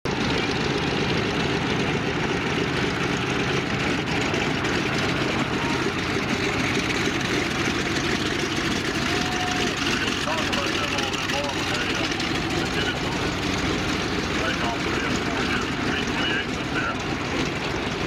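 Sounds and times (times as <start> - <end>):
radial aircraft engine rumbling: 0.0 - 18.0.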